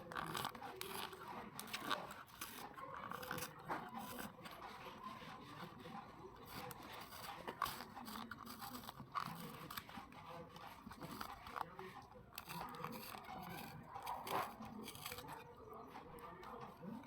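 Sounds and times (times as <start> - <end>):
packaging rustling and scraping: 0.0 - 16.6.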